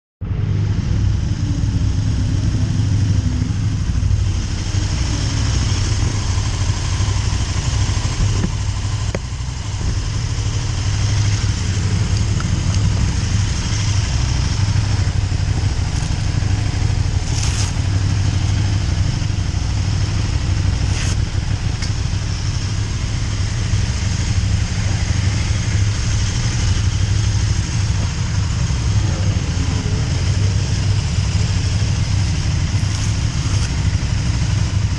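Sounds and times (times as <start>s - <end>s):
loud rush of noise: 0.2s - 34.9s
motorcycle engine running: 0.2s - 34.9s.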